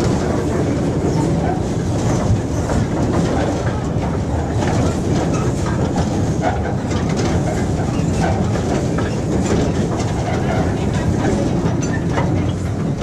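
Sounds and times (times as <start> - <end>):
steam train rumble: 0.0 - 13.0
wheels clattering on rail track: 0.0 - 13.0.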